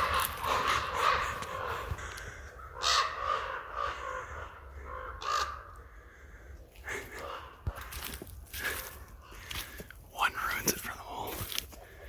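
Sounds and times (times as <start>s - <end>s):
ravens cawing: 0.0s - 10.5s.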